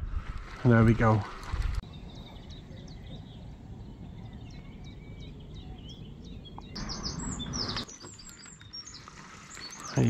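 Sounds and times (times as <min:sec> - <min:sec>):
small birds chirping: 0:01.8 - 0:10.0.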